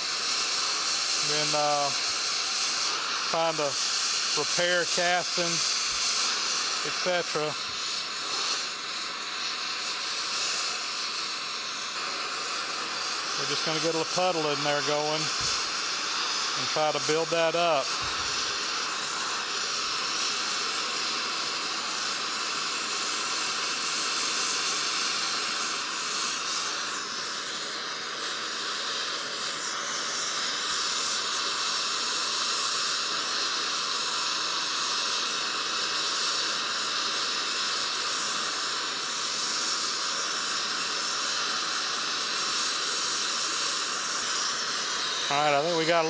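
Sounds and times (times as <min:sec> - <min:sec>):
torch flame hissing: 0:00.0 - 0:46.0.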